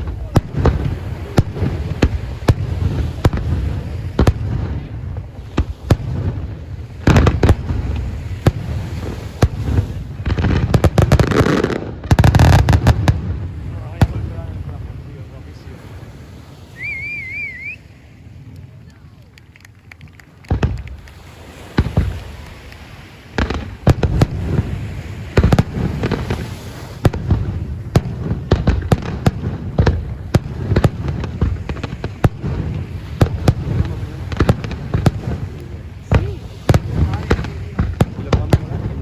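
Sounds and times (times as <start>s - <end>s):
fireworks exploding: 0.0s - 39.0s.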